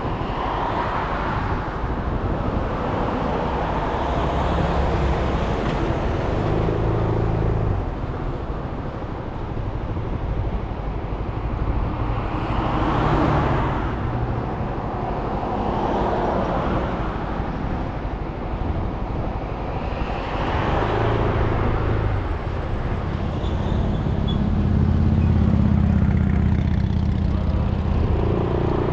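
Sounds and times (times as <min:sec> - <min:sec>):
road and traffic noise: 0:00.0 - 0:28.9.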